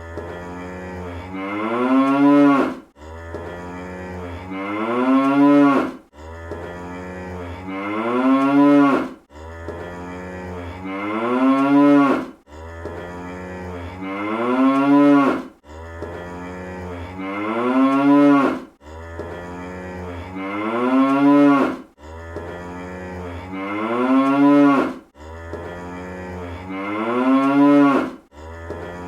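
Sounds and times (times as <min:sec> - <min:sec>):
cartoon cow mooing: 0:00.0 - 0:29.0.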